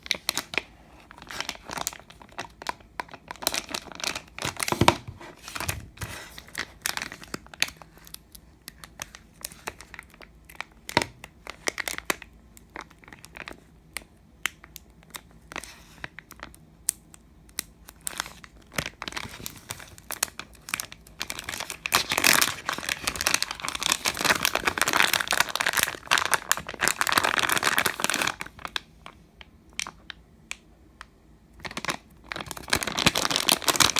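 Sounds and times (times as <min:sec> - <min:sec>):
slime squishing with crackling pops: 0:06.4 - 0:33.9.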